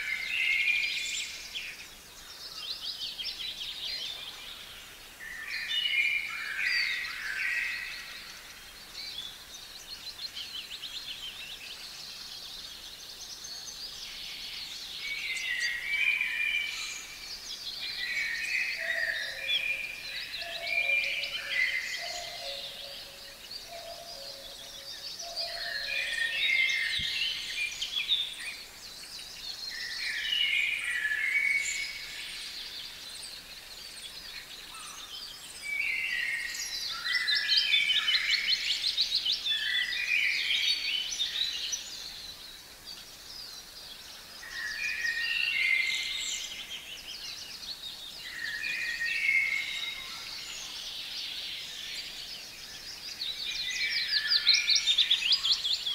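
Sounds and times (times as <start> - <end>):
songbirds singing: 0.0 - 55.9.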